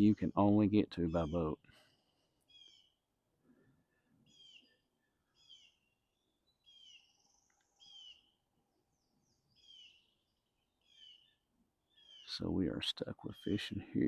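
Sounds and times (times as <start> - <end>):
faint outdoor background: 0.0 - 14.0
songbird chirping: 0.0 - 14.0.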